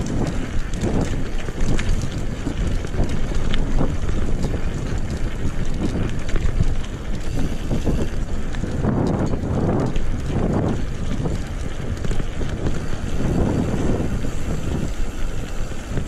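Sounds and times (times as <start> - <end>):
bike rattles and knocks: 0.0 - 16.0
tyres rumbling on rough road: 0.0 - 16.0
wind buffeting microphone: 0.0 - 16.0.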